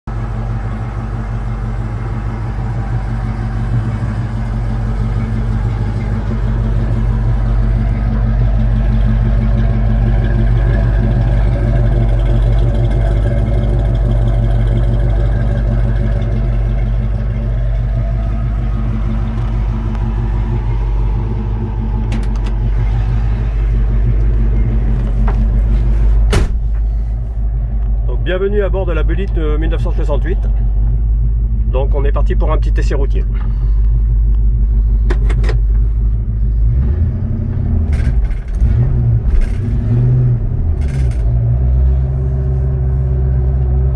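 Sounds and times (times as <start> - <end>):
car engine rumbling: 0.0 - 43.9.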